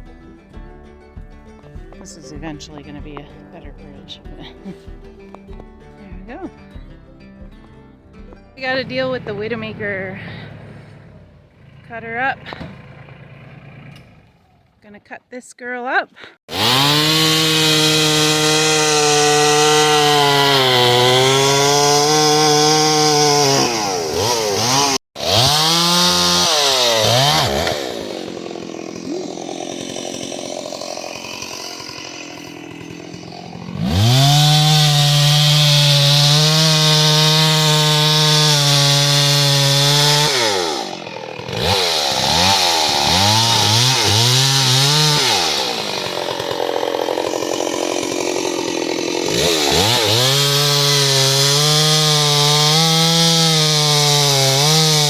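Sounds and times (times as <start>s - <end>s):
chainsaw cutting wood: 1.5s - 6.6s, 8.6s - 15.0s, 16.4s - 55.0s.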